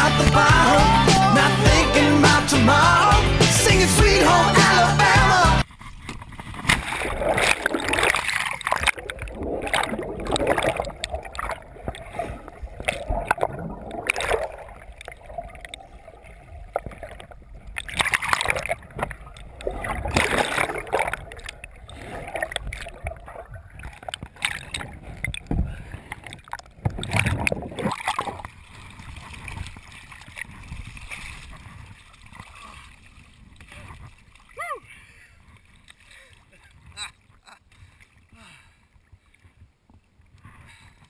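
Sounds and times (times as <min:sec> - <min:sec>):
water splashing around kayak: 0:05.0 - 0:41.0.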